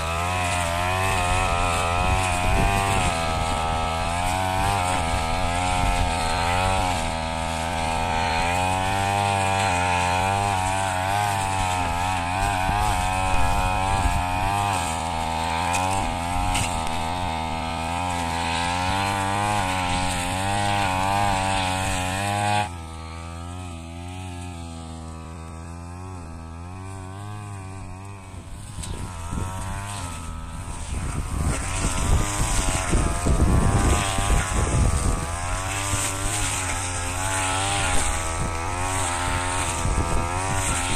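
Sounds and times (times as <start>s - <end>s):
brush cutter engine: 0.0s - 40.9s.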